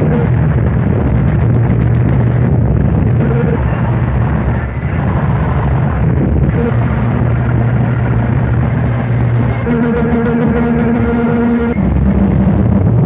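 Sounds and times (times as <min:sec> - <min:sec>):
distorted noise wall: 0:00.0 - 0:13.0
low droning hum: 0:00.0 - 0:13.0.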